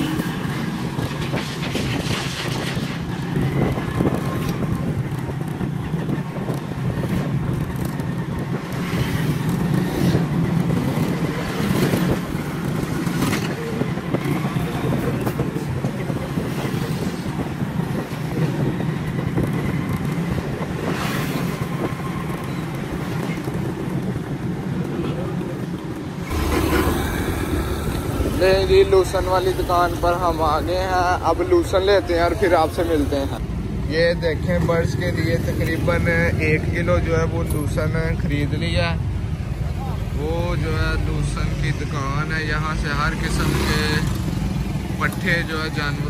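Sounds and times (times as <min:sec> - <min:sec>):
constant rushing noise: 0:00.0 - 0:46.0.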